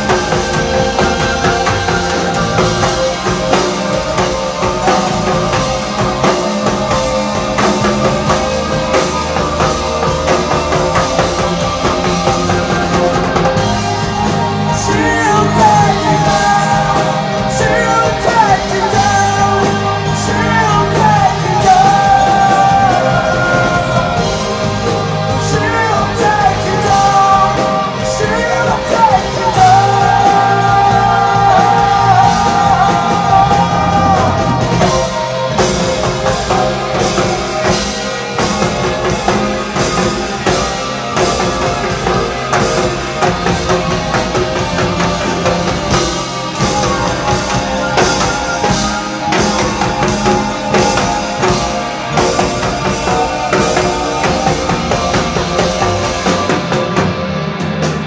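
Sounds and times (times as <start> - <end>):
man singing: 0.0 - 57.0
live rock band playing: 0.0 - 58.0.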